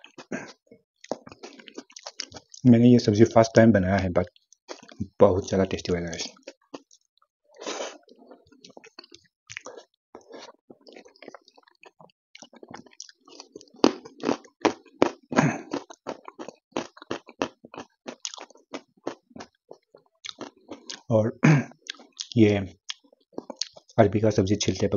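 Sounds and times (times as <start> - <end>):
wet chewing and mouth smacks: 0.0 - 2.7, 4.3 - 5.0, 6.2 - 21.1, 21.8 - 24.0.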